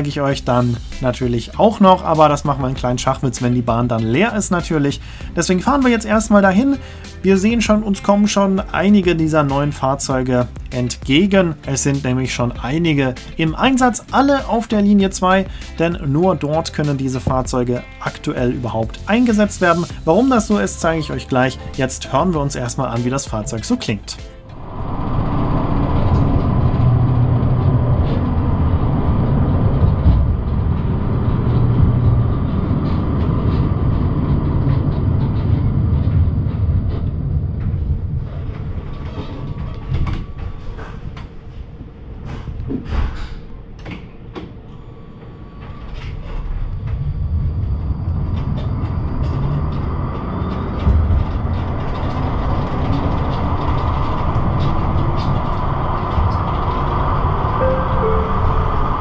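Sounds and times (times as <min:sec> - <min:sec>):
tram rumble with whine: 0:00.0 - 0:59.0.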